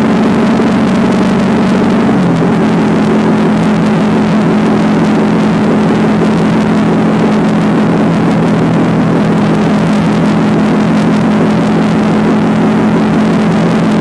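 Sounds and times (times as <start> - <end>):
motorcycle engine cruising: 0.0 - 14.0
wind and road noise: 0.0 - 14.0.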